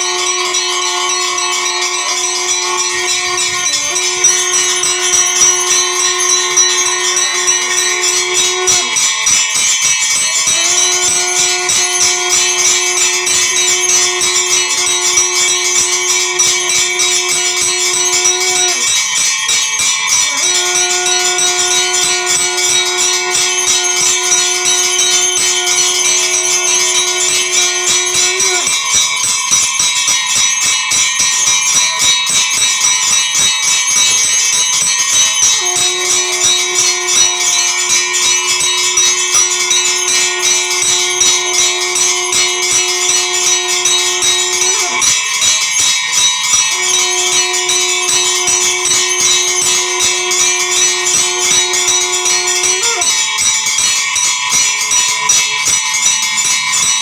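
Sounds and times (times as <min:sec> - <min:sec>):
bells ringing rapidly: 0:00.0 - 0:57.0.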